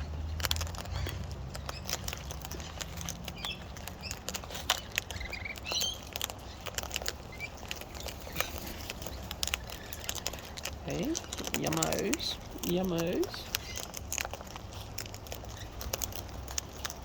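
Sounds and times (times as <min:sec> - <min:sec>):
birds pecking clicks and taps: 0:00.0 - 0:17.0.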